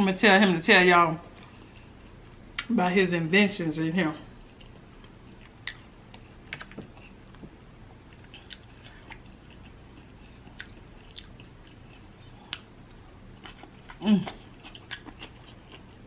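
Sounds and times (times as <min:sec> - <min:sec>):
person chewing food: 0:01.3 - 0:02.7, 0:04.4 - 0:16.0.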